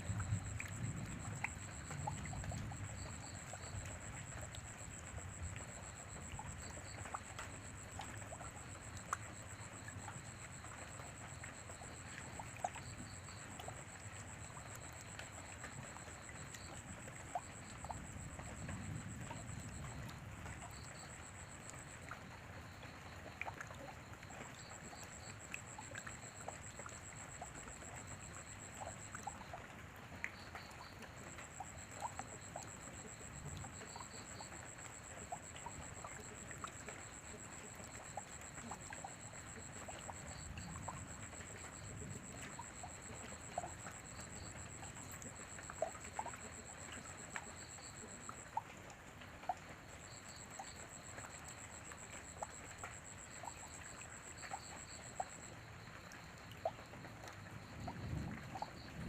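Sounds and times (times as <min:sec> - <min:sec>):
water drops dripping: 0:00.0 - 0:48.7, 0:49.5 - 0:58.9
steady light rain: 0:00.0 - 0:59.0.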